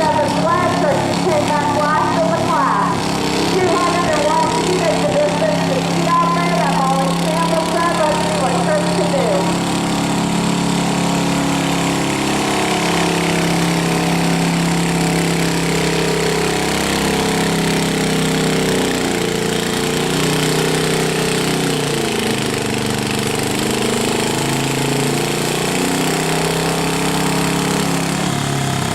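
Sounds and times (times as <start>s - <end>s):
garden tractor engine running: 0.0s - 28.9s.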